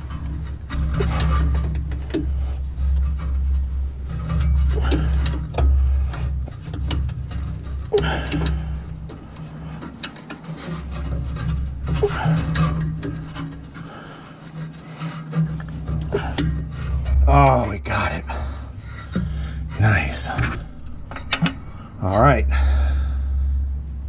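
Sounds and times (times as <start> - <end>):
rubbing and scraping: 0.0 - 24.0
steady low hum: 0.0 - 24.0.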